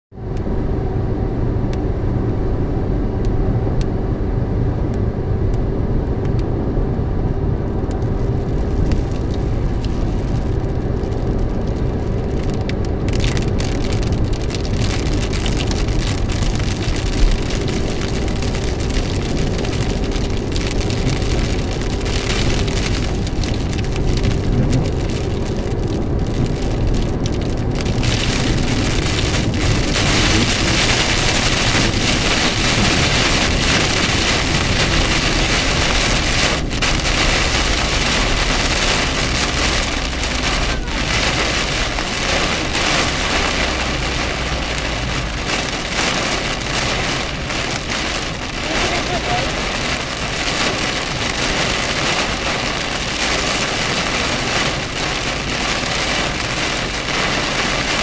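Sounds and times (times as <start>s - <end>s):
car engine and tyre rumble: 0.1s - 58.0s
heavy rain: 6.9s - 58.0s
raindrops ticking on car: 7.7s - 58.0s.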